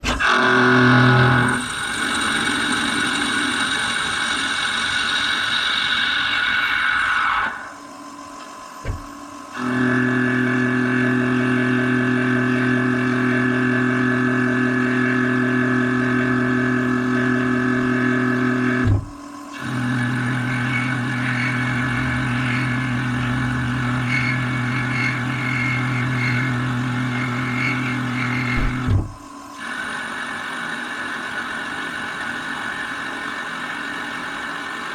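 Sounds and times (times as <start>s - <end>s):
lathe machine hum and whine: 0.0s - 34.9s.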